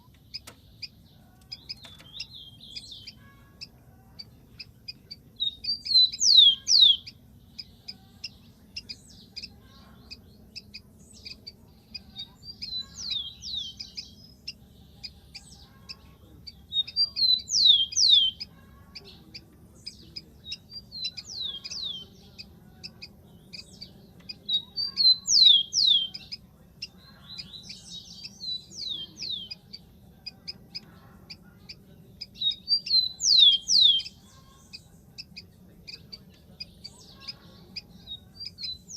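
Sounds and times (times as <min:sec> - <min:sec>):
sparrow singing whistled notes: 0:04.2 - 0:15.7, 0:16.5 - 0:19.2, 0:19.8 - 0:30.6, 0:31.7 - 0:38.9.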